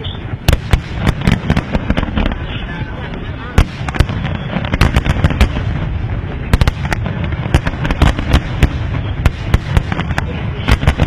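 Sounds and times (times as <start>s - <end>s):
continuous fireworks rumble: 0.0s - 11.0s.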